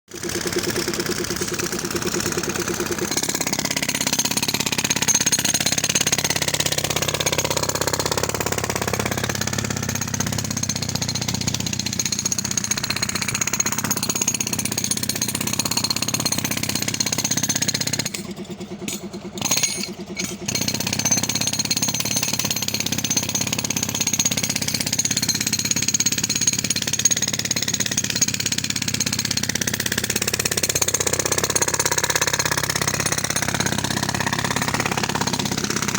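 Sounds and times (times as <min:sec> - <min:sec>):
demolition hammer on concrete: 0:00.1 - 0:35.9.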